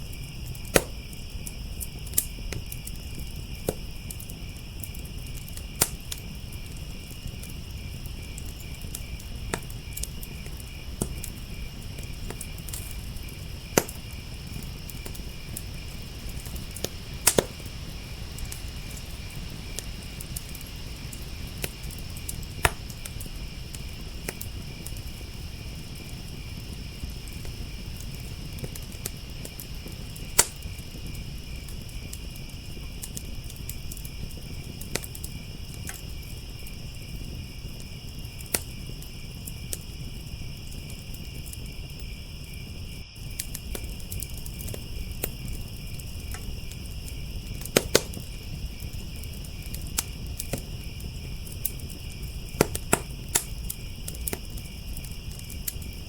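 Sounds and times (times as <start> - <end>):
crickets chirring: 0.0 - 56.0
wood fire crackling: 0.0 - 56.0.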